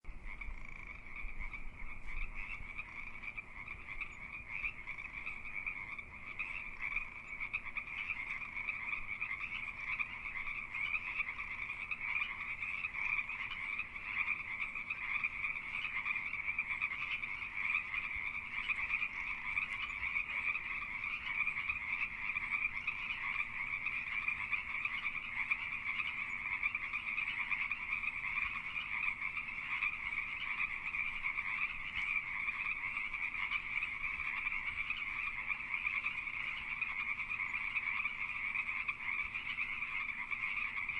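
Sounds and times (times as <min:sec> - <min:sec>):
tree frogs croaking in chorus: 0:00.1 - 0:40.9.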